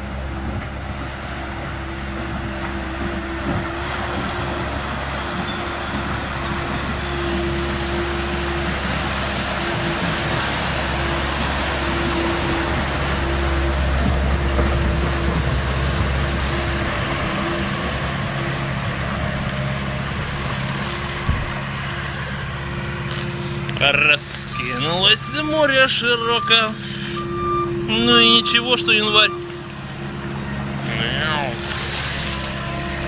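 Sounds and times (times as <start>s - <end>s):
rushing water: 0.0s - 33.0s
tractor engine running: 0.0s - 33.0s.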